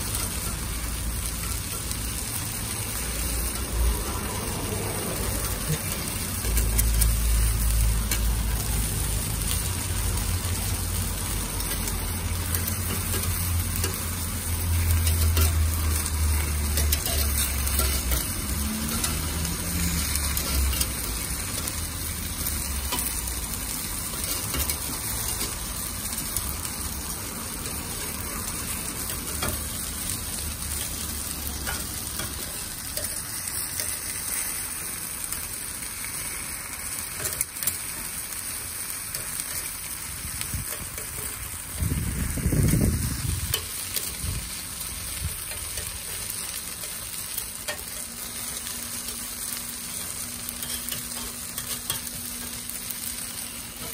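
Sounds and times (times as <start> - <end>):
batter sizzling on griddle: 0.0 - 53.9.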